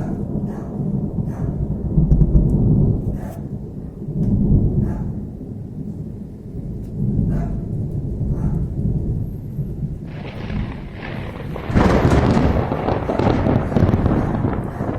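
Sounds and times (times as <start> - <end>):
crackling thunder peal: 0.0 - 14.9
thunder rumbling: 0.0 - 14.9.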